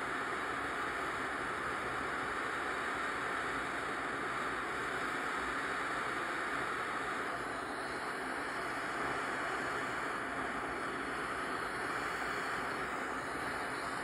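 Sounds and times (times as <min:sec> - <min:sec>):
gas torch flame hissing: 0:02.4 - 0:14.0.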